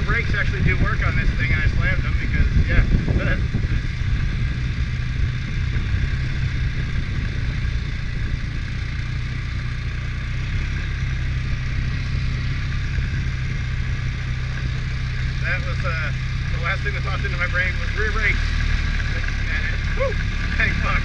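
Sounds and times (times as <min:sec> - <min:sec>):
atv engine running at low revs: 0:00.0 - 0:21.0.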